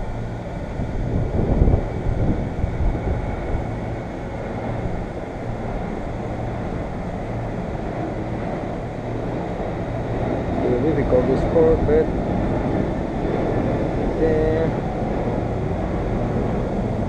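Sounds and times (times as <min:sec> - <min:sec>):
steady low rumble: 0:00.0 - 0:17.0
wind buffeting microphone: 0:00.0 - 0:17.0.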